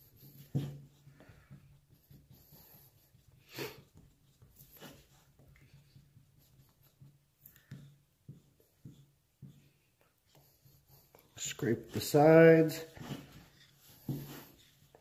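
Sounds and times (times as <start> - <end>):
stir stick scraping paper cup: 0.0 - 15.0.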